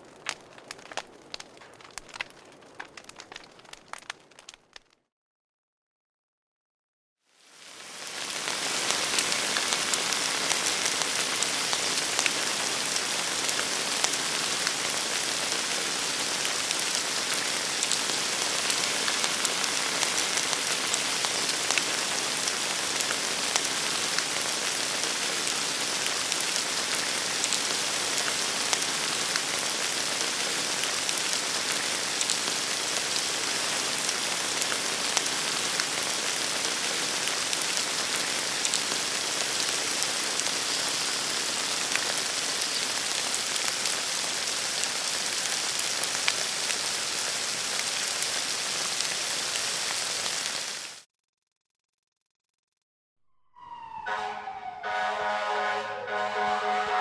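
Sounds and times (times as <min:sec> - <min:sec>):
fireplace fire crackling: 0:00.0 - 0:05.0, 0:07.4 - 0:51.0.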